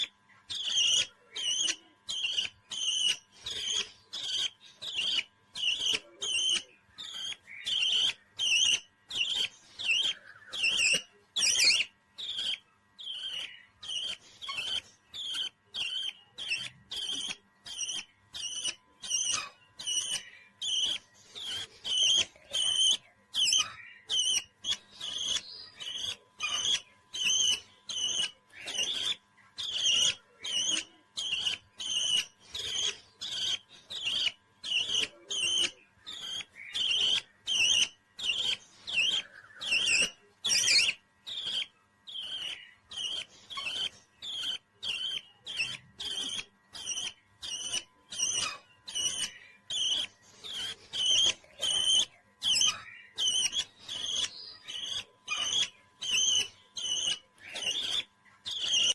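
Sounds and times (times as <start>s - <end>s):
parrot chirping: 0.0s - 58.9s.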